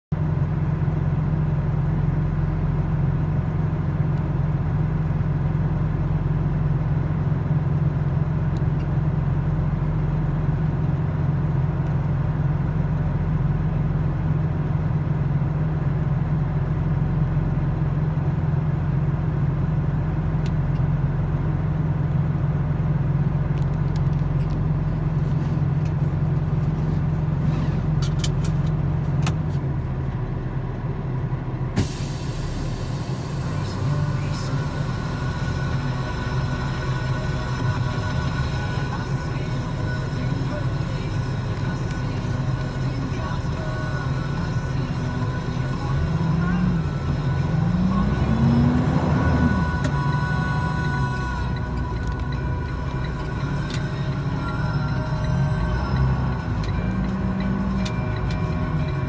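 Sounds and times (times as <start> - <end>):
car idling hum: 0.2 - 59.0.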